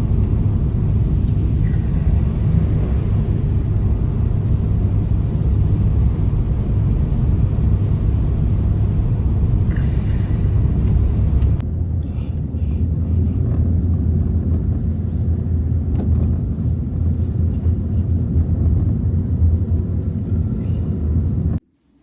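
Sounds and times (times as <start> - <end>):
blizzard wind buffeting microphone: 0.0 - 21.6.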